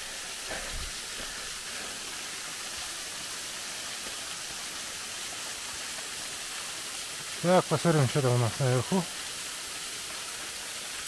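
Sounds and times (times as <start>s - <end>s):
waterfall splashing on rock: 0.0s - 11.0s.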